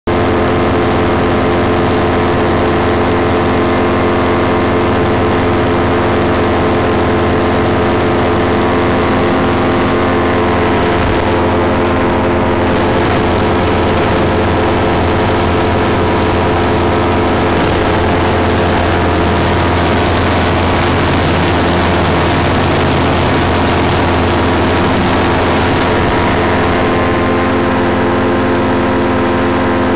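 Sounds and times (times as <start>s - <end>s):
paramotor engine and propeller: 0.1s - 29.9s.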